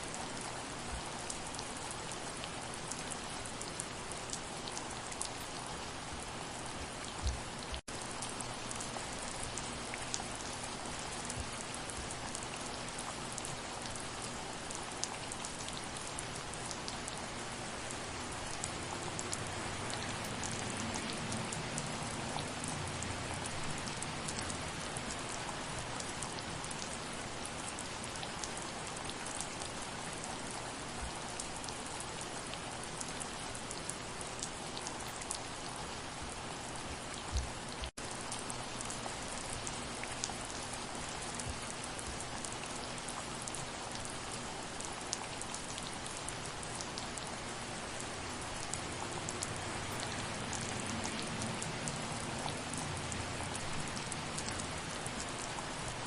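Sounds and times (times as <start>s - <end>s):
soft rain patter: 0.0s - 56.0s.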